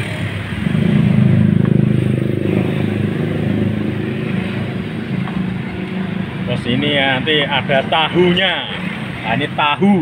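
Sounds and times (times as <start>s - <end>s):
engine running with low hum: 0.0s - 9.2s.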